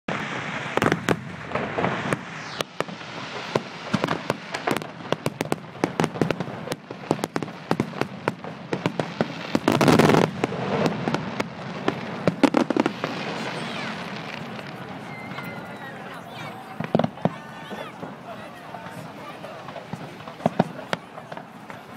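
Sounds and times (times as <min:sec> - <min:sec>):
fireworks bangs and crackles: 0:00.1 - 0:21.9.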